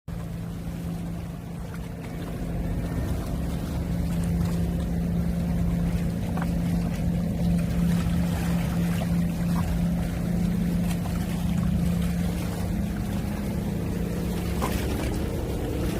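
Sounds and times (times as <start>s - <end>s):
gentle waves washing: 0.1s - 15.9s
low engine hum: 0.1s - 15.9s.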